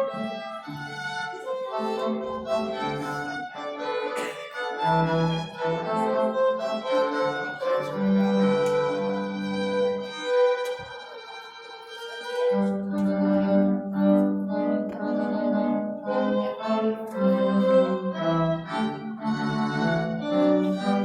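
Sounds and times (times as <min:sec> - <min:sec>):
cello holding low notes: 0:00.0 - 0:11.6, 0:12.3 - 0:21.0
violin melody: 0:00.0 - 0:21.0.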